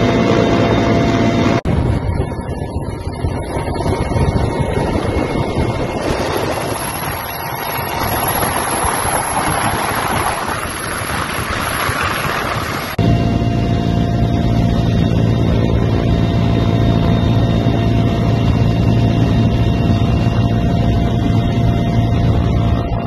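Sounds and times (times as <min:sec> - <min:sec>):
helicopter rotor and engine: 0:00.0 - 0:23.0
wind noise on microphone: 0:00.0 - 0:23.0.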